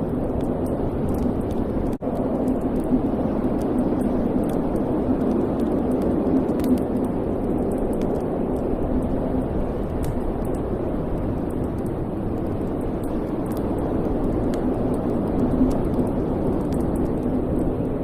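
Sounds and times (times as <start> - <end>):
fire crackles and pops: 0.0 - 18.0.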